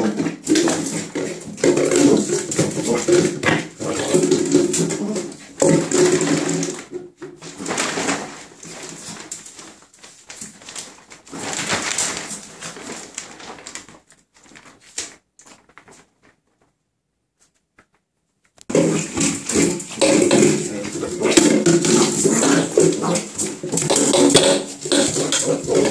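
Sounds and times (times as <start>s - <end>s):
rustling and scraping in a bathtub: 0.0s - 25.9s.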